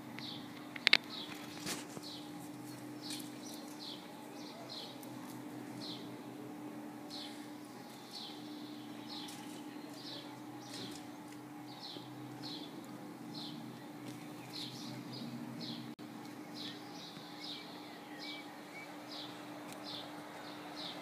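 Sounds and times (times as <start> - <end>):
faint steady hum: 0.0 - 21.0
bird chirping: 0.2 - 6.2, 7.1 - 21.0.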